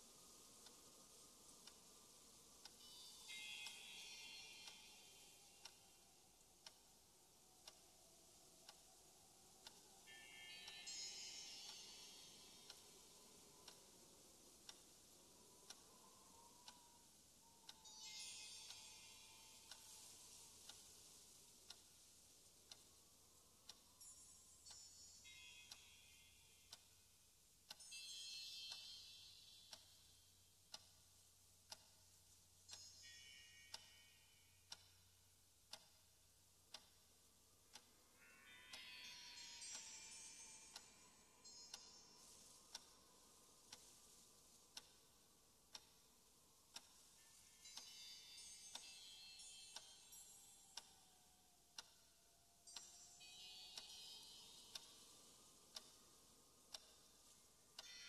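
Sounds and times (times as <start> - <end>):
high sustained ringing tones: 0.0 - 31.0, 32.1 - 35.3, 37.2 - 58.0
faint regular ticking: 0.0 - 58.0.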